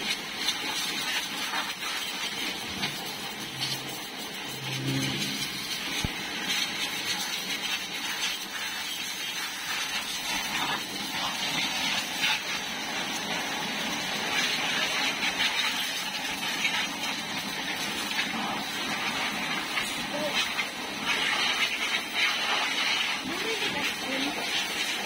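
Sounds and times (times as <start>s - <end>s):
pressure washer spraying: 0.0s - 25.0s.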